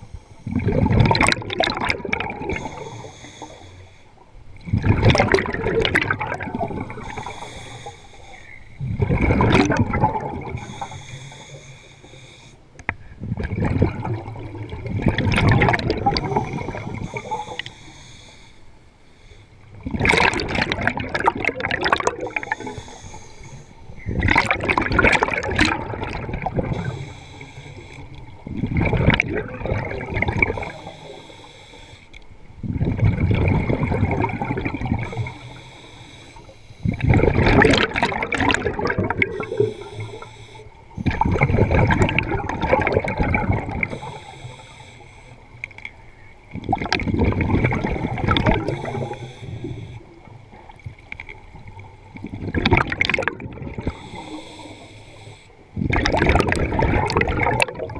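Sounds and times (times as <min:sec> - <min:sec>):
underwater breath bubbles gurgling: 0:00.0 - 0:57.9.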